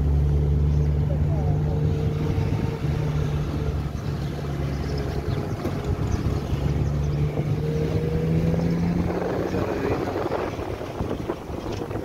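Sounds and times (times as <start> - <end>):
car engine running: 0.0 - 12.0
road and wind noise: 0.0 - 12.0.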